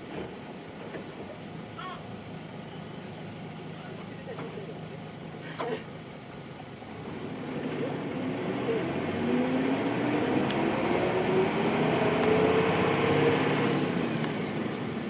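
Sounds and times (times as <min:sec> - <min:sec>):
bus diesel engine accelerating: 0:00.0 - 0:15.0.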